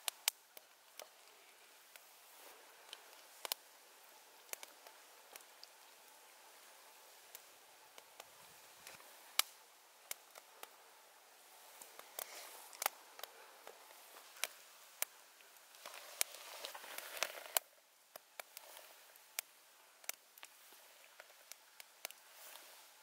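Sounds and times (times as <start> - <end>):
food sizzling with pops and crackles: 0.0 - 23.0.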